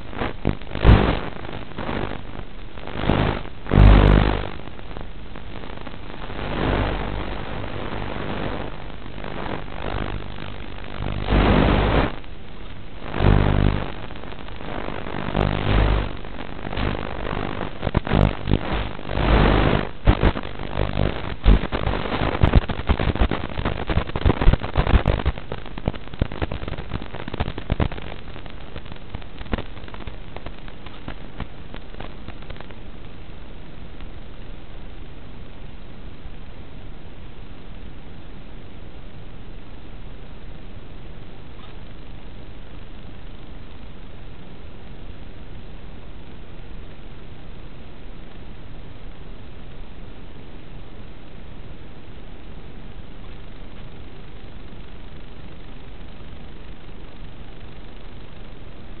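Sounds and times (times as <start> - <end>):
buzzing static and crackle: 0.0 - 59.0
steady hiss: 0.0 - 59.0.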